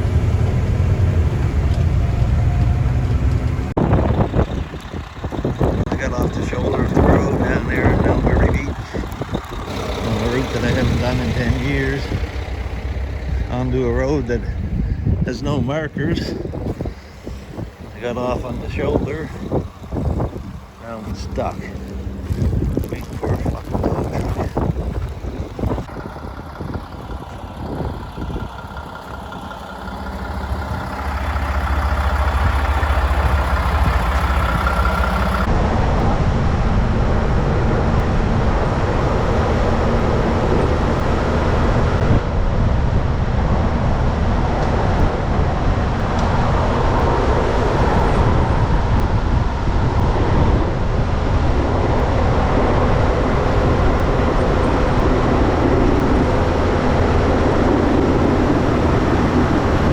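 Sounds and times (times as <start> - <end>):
road and cab noise: 0.0 - 59.9
truck diesel engine running: 0.0 - 59.9.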